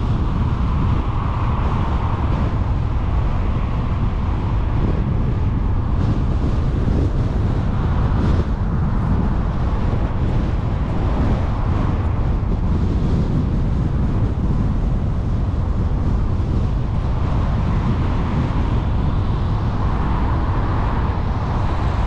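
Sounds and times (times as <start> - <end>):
road and tyre rumble: 0.0 - 22.0
wind on microphone: 0.0 - 22.0.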